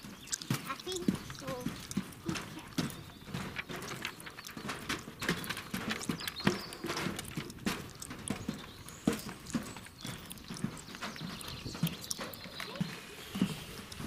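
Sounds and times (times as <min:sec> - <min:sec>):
footsteps on trail path: 0:00.0 - 0:14.0.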